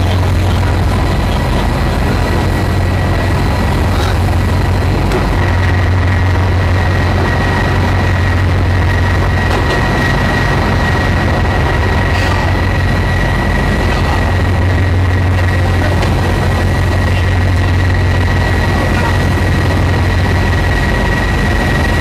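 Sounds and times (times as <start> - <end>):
high whine: 0.0 - 22.0
ship engines droning: 0.0 - 22.0.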